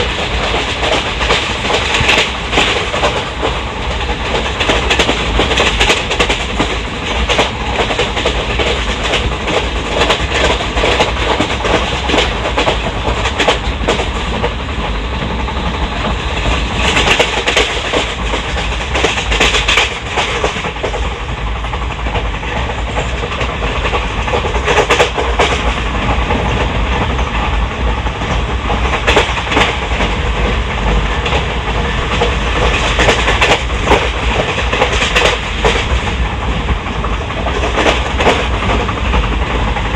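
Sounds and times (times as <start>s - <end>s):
clickety-clack over rail joints: 0.0s - 39.9s
train wheels rumbling and rattling: 0.0s - 39.9s.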